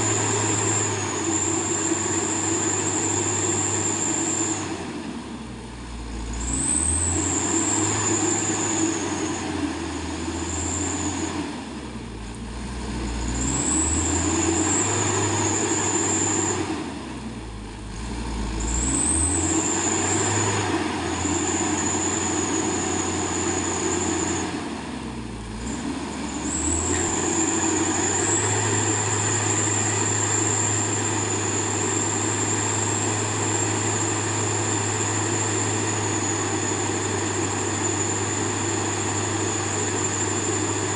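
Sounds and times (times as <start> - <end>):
heavy truck engine revving: 0.0 - 5.3, 5.9 - 40.9.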